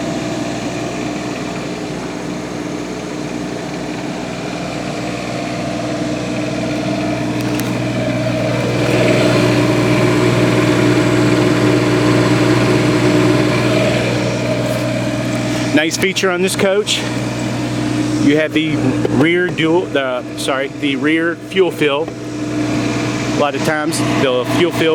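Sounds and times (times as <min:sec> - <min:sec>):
engine humming: 0:00.0 - 0:24.9.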